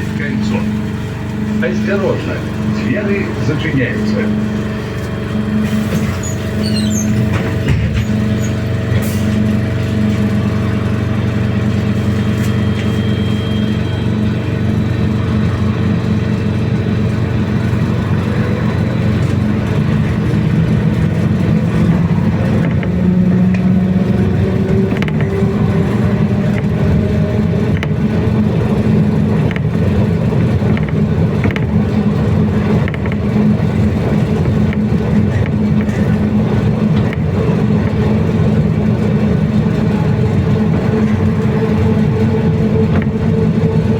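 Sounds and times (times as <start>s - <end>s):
electric traction drive whine: 0.0s - 43.9s
road and body rumble: 0.0s - 43.9s.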